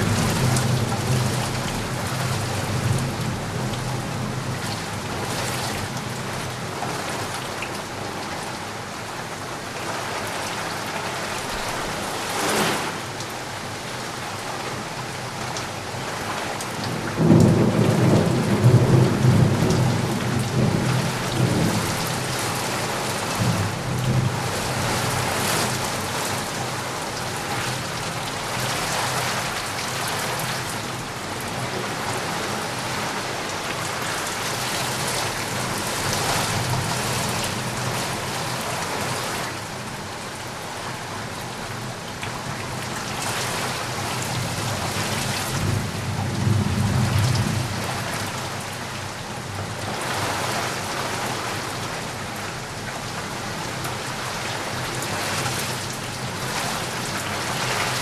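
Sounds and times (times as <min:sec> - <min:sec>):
heavy rain hiss: 0:00.0 - 0:58.0.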